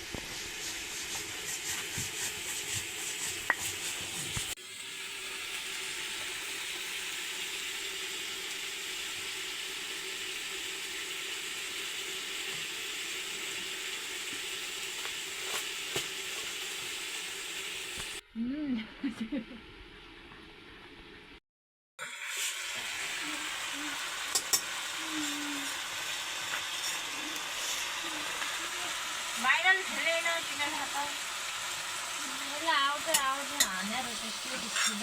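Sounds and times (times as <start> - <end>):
food sizzling in a pan: 0.0 - 18.2, 22.0 - 35.0.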